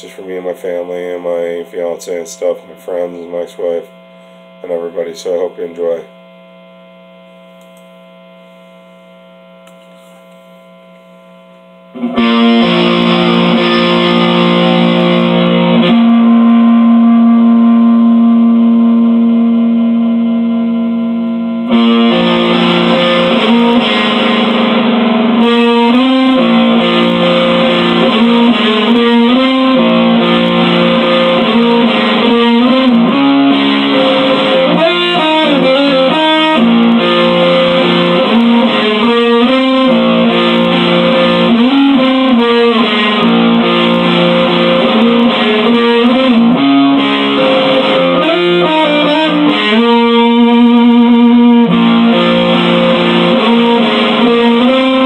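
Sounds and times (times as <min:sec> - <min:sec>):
electric guitar playing: 0:00.0 - 0:09.0, 0:09.6 - 0:55.0.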